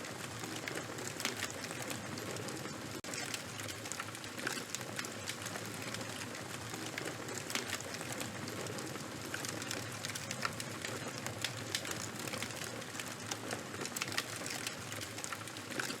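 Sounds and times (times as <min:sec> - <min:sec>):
small crackles and pops of fire: 0:00.0 - 0:16.0.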